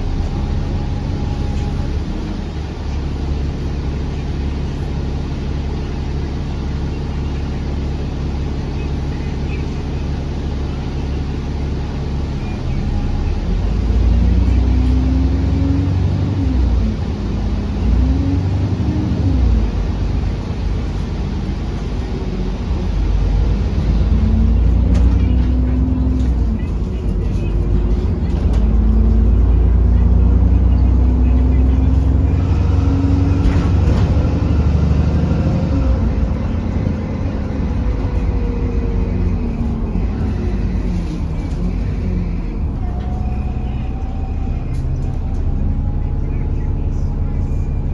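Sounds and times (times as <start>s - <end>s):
bus engine rumble and whine: 0.0s - 47.9s
road and tyre noise: 0.0s - 47.9s.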